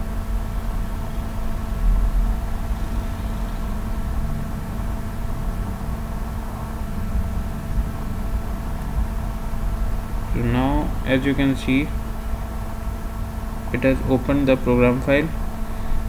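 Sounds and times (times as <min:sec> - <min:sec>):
background hum and rumble: 0:00.0 - 0:16.0.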